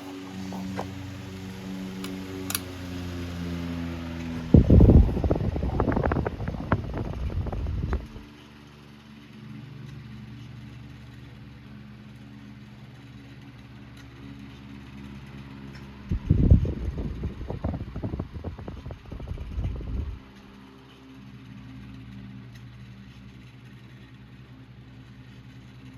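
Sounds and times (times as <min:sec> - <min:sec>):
fan airflow buffeting microphone: 0:00.0 - 0:25.9
fan motor hum: 0:00.0 - 0:25.9.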